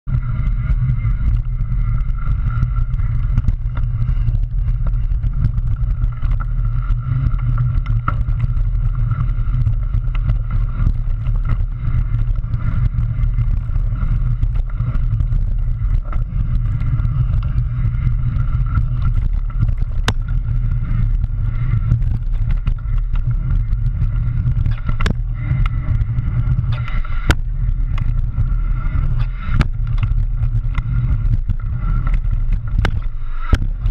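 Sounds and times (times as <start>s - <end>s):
wind and trail vibration rumble: 0.0s - 33.9s
bike knocking over bumps: 3.0s - 33.9s.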